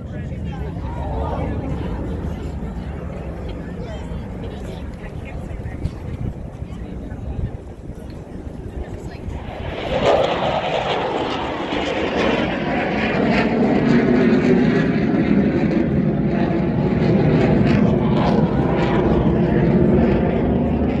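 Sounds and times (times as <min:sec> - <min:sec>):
jet flying overhead: 0:00.0 - 0:21.0.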